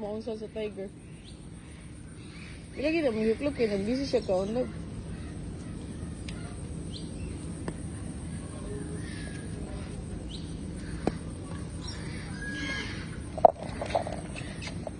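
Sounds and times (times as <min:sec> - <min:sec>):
low background hum: 0:00.0 - 0:14.9.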